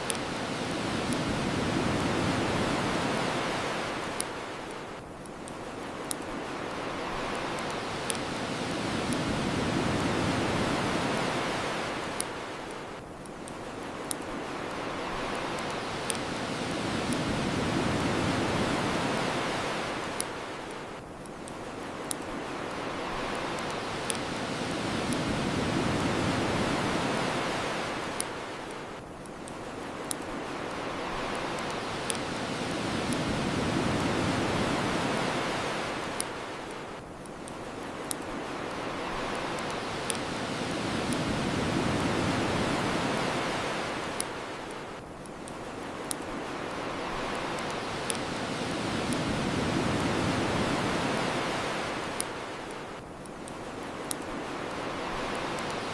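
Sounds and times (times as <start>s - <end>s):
bonfire crackling pops: 0.0s - 55.9s
ocean waves washing ashore: 0.0s - 55.9s.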